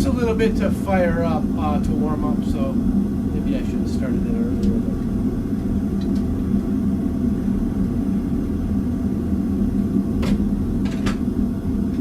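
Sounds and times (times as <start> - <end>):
forge roaring: 0.0 - 12.0.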